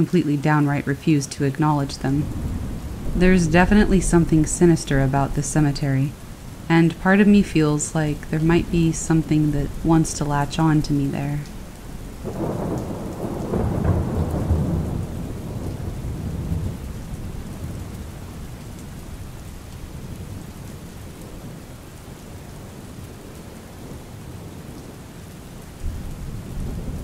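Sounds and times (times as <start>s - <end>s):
steady rain: 0.0s - 27.0s
thunder rumble: 0.7s - 21.6s, 25.7s - 27.0s.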